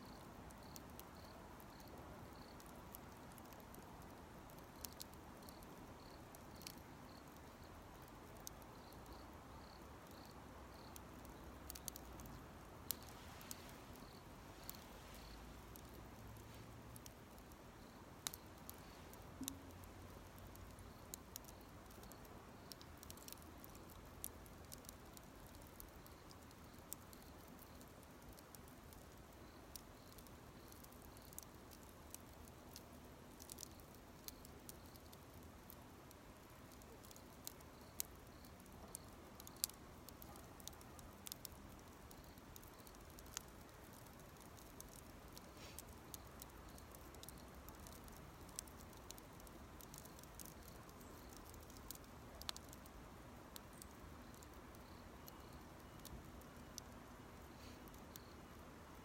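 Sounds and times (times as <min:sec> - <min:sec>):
campfire pops and crackles: 0:00.0 - 0:59.0
soft fire hiss: 0:00.0 - 0:59.0.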